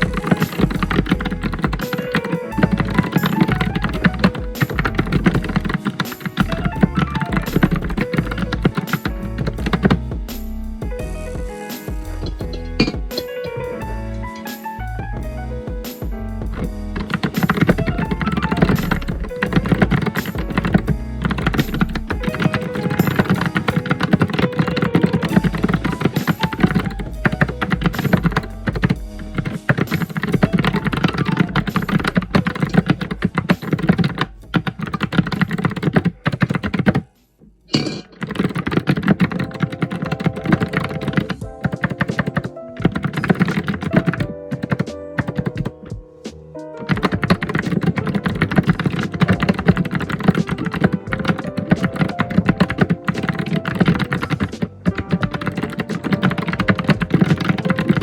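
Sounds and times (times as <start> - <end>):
typing on computer keyboard: 0.0 - 9.7, 17.0 - 37.0, 37.8 - 45.8, 46.8 - 58.0.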